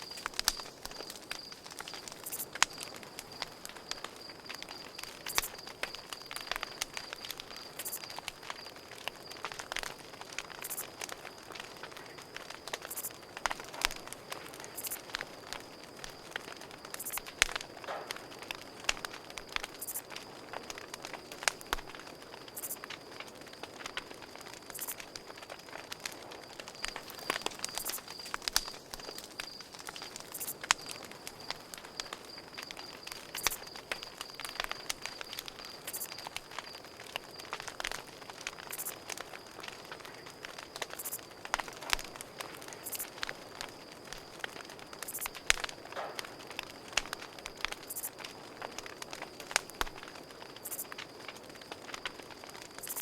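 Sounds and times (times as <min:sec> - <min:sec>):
campfire crackling and popping: 0:00.0 - 0:53.0
crickets trilling: 0:00.0 - 0:53.0.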